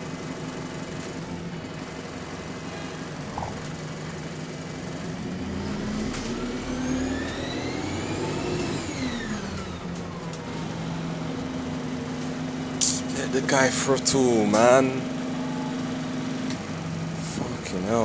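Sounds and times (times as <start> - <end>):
bus engine accelerating: 0.0 - 18.0
turbocharger whine: 0.0 - 18.0.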